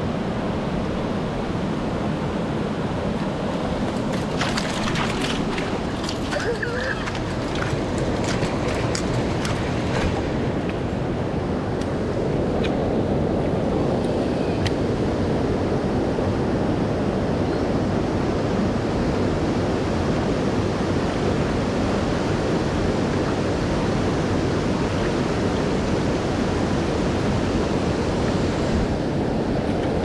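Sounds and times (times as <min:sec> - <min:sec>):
water rushing: 0:00.0 - 0:15.1, 0:19.4 - 0:30.0
wind: 0:00.0 - 0:30.0.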